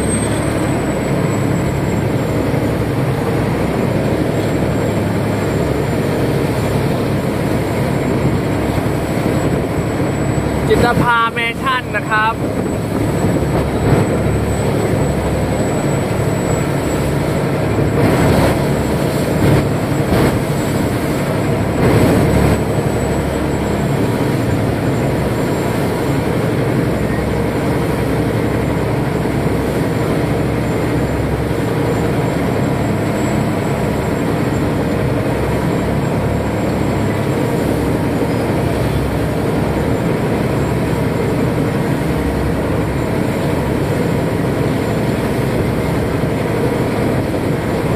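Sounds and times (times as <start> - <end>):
boat diesel engine running: 0.0 - 47.9
water noise: 0.0 - 47.9.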